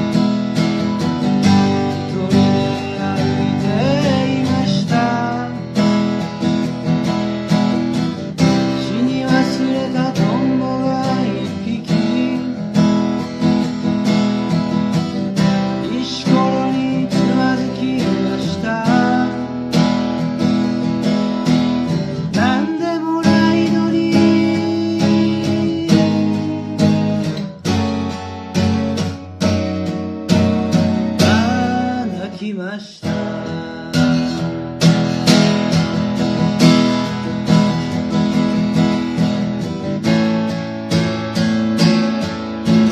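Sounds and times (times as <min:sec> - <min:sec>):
acoustic guitar strummed chords: 0:00.0 - 0:42.9.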